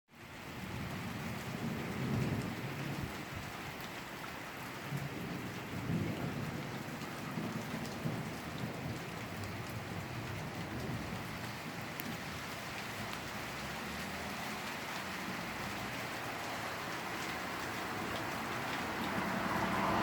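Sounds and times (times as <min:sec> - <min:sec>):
steady rain falling: 0:00.1 - 0:20.0
rolling thunder rumbles: 0:00.6 - 0:03.9, 0:04.6 - 0:20.0.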